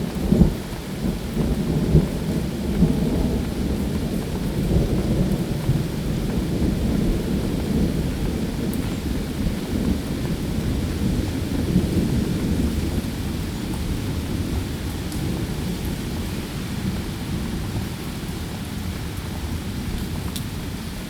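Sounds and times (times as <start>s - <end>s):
low rumble of thunder: 0.0s - 21.0s
steady rain: 0.0s - 21.0s.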